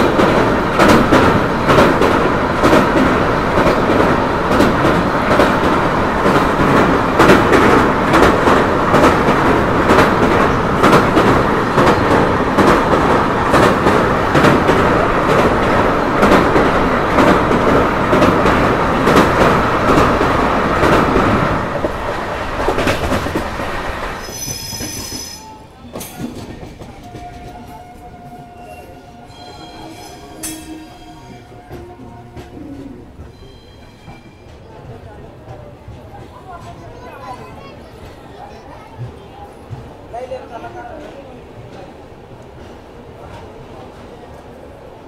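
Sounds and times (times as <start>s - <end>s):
train rumbling over a bridge: 0.0s - 45.0s.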